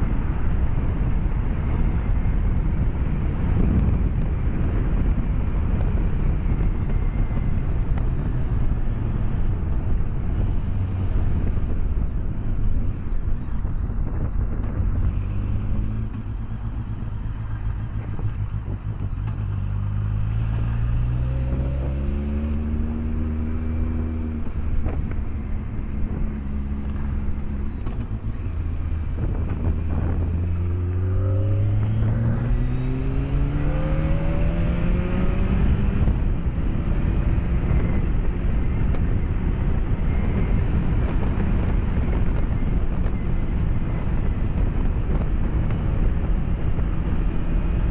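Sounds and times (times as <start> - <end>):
motorcycle engine accelerating: 0.0 - 47.9
wind noise: 0.0 - 47.9.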